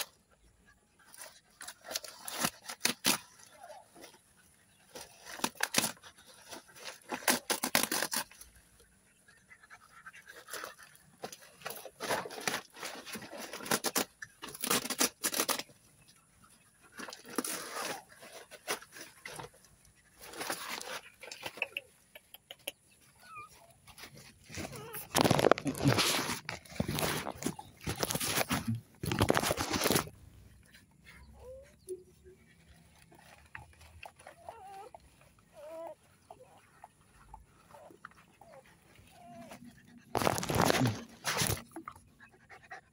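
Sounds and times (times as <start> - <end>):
dogs rustling and scraping: 0.0 - 42.4.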